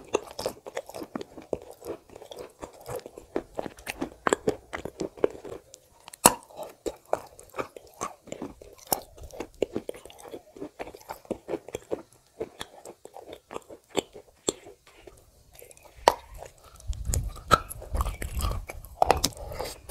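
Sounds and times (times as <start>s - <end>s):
chewing crunches: 0.0s - 19.9s
moist mouth clicks: 0.0s - 19.9s.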